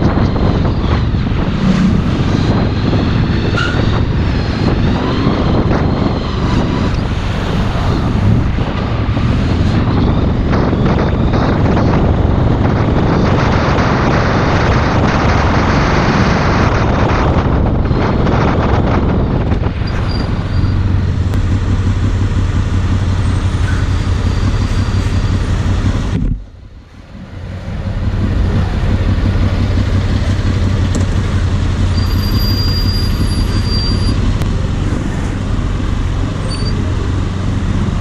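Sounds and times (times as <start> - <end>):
motorcycle engine running: 0.0 - 38.0
wind rush on microphone: 0.0 - 38.0.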